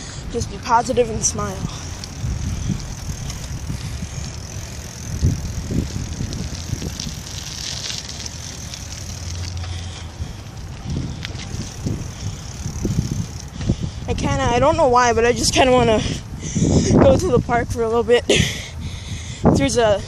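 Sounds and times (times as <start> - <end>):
wind on microphone: 0.0 - 8.2, 10.0 - 20.0
bicycle tyres rumbling: 0.0 - 20.0.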